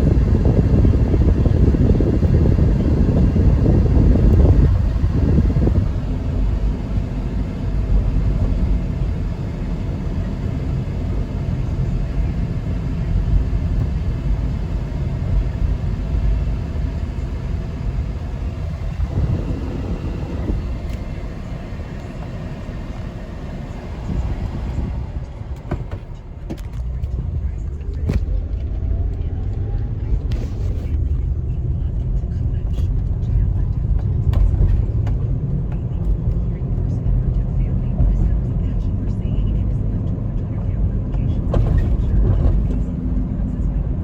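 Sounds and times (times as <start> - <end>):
car engine running with misfire: 0.0 - 44.0.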